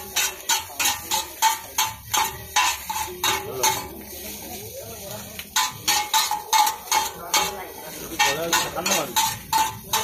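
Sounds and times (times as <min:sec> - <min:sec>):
metal spatulas clanging on griddle: 0:00.0 - 0:10.0.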